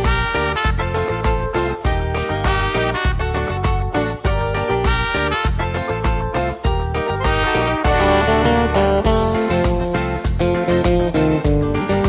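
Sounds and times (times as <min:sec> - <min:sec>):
strummed guitar music with beat: 0:00.0 - 0:12.0.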